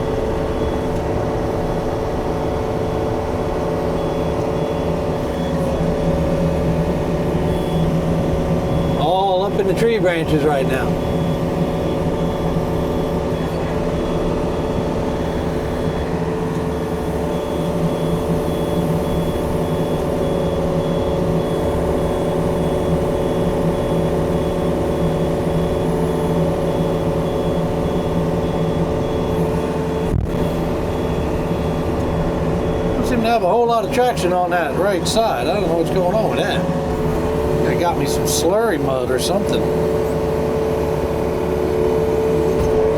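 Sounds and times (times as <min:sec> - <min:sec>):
diesel engine running under load: 0:00.0 - 0:42.9
travel alarm beeping: 0:00.0 - 0:42.9.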